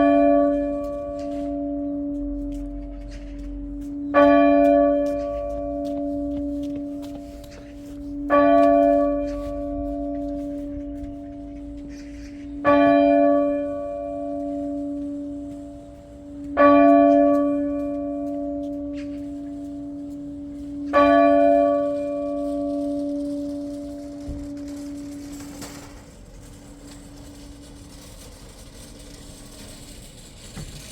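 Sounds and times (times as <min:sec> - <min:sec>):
church bell tolling: 0:00.0 - 0:25.3.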